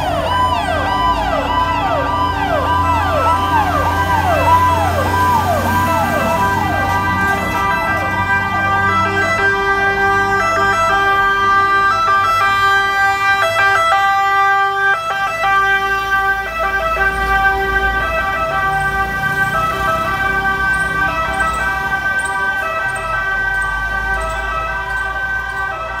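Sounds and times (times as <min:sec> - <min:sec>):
fire truck sirens: 0:00.0 - 0:26.0
heavy truck engine rumble: 0:00.0 - 0:26.0
siren yelp: 0:00.0 - 0:26.0.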